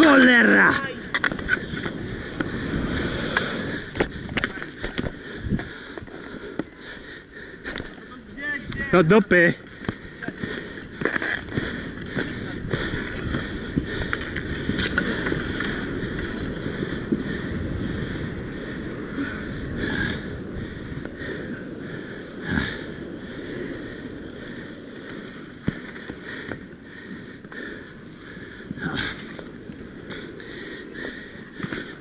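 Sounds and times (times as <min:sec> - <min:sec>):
roller skate wheels rolling: 0:00.0 - 0:32.0.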